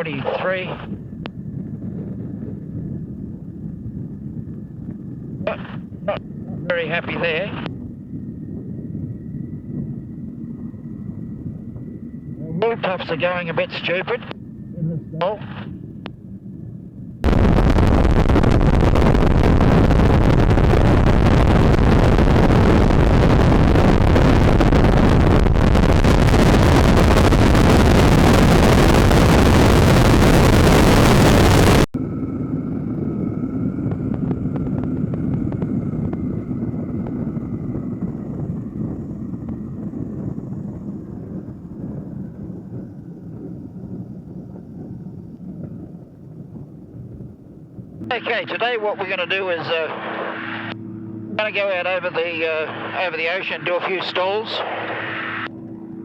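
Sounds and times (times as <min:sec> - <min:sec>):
aircraft engine drone: 0:00.0 - 0:56.0
whine falling in pitch: 0:00.0 - 0:56.0
wind rush in cockpit: 0:00.0 - 0:56.0.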